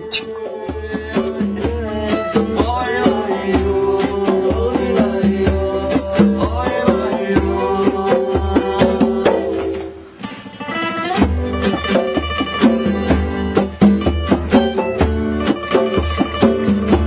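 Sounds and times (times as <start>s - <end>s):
folk acoustic guitar music: 0.0s - 17.0s.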